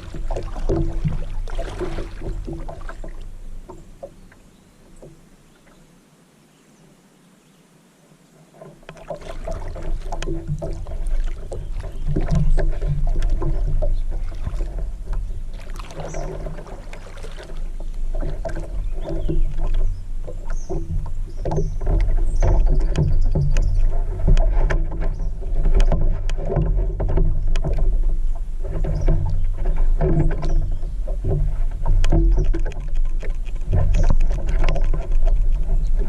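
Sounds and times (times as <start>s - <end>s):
knocks against kayak hull: 0.0s - 4.4s, 8.6s - 36.0s
water splashing and sloshing: 0.0s - 5.9s, 8.4s - 36.0s.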